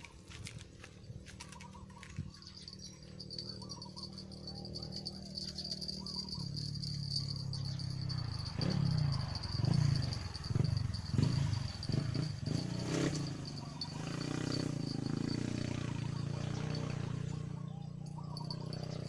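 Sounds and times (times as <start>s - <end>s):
crickets trilling: 0.0s - 19.0s
steady low hum: 0.1s - 19.0s.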